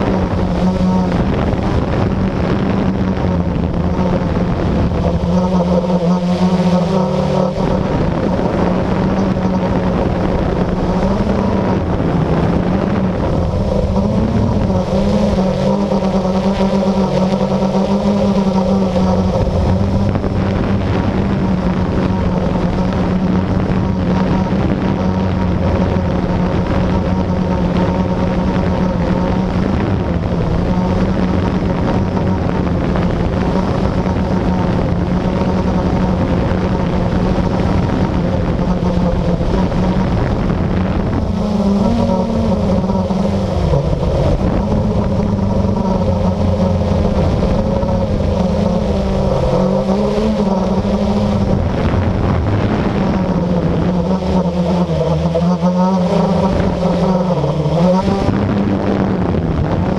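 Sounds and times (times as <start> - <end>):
quadcopter propellers buzzing: 0.0 - 59.9.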